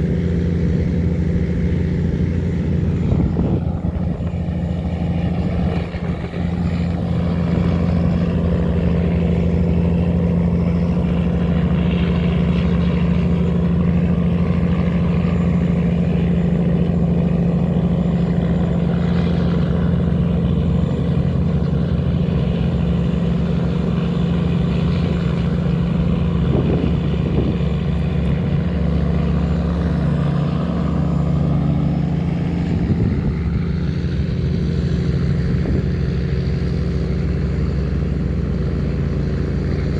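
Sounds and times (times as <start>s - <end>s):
tugboat diesel engines running: 0.0s - 39.9s.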